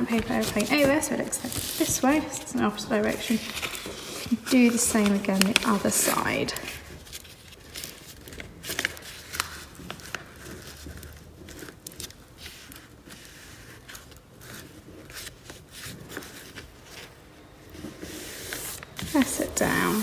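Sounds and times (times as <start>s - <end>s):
paper crinkling and scraping: 0.0s - 20.0s.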